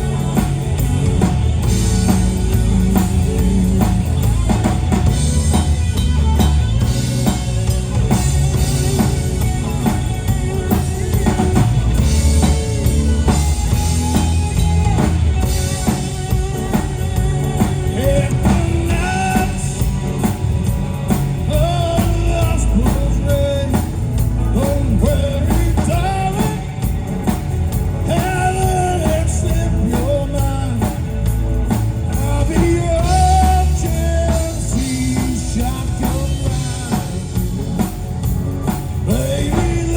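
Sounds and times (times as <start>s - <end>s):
drum kit: 0.0s - 39.9s
heavy bass: 0.0s - 39.9s
rock band playing: 0.0s - 39.9s
wavering lead melody: 0.0s - 39.9s.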